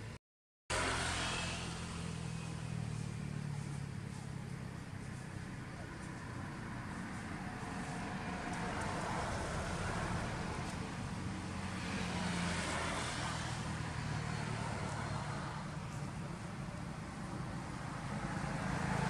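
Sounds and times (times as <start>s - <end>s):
vehicle driving past: 0.7s - 19.0s.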